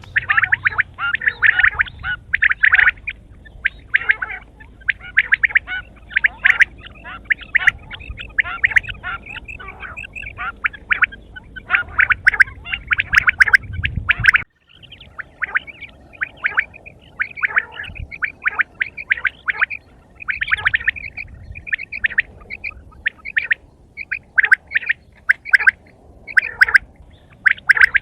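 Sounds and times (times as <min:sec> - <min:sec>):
quail chirping calls: 0:00.0 - 0:28.0.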